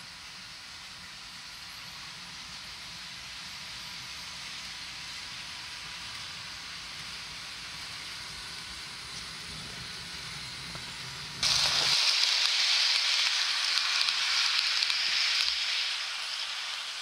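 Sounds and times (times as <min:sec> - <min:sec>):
loud steady hiss: 0:00.0 - 0:17.0
model trains rumbling on track: 0:00.0 - 0:17.0.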